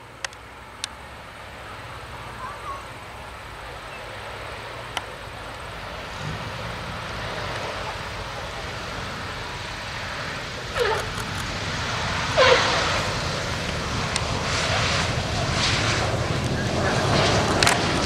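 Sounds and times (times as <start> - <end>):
aircraft propeller engines running: 0.0 - 18.0.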